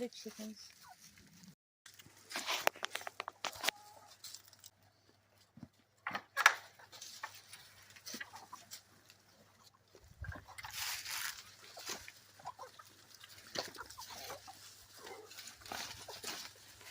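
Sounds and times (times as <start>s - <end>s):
crackles and rustles: 0.0s - 16.9s
chickens clucking: 0.2s - 1.2s, 2.5s - 16.9s.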